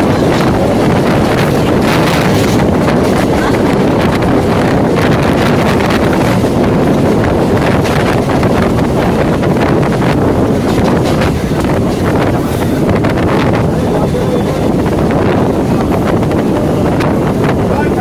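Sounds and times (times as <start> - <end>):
train rumbling and rattling: 0.0 - 18.0
wind buffeting microphone: 0.0 - 18.0.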